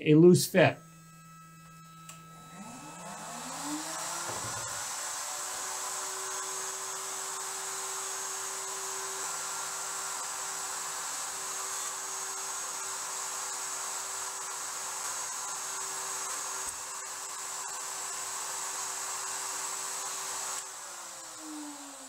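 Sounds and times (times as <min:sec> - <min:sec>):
router whining: 0:00.8 - 0:22.0.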